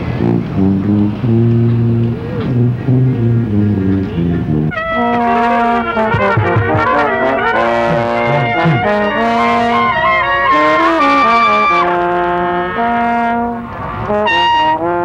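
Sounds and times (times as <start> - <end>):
marching band brass playing: 0.0 - 15.0.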